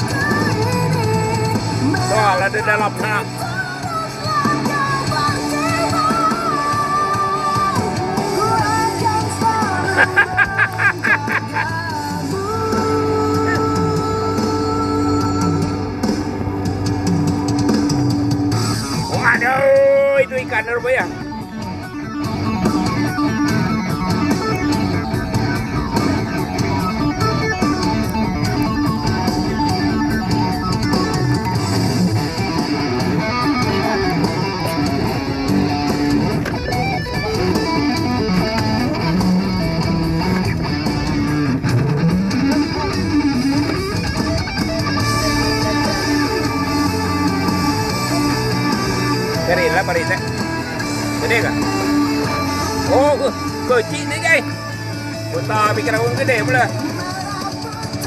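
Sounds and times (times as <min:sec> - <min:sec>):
guitar background music: 0:00.0 - 0:58.0.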